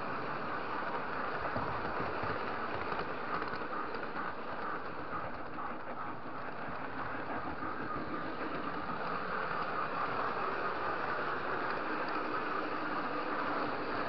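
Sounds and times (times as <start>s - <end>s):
model train wheels rumbling: 0.0s - 14.0s.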